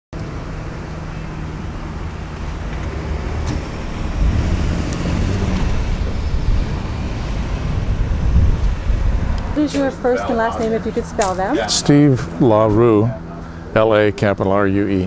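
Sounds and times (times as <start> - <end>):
car driving past: 0.3 - 14.0.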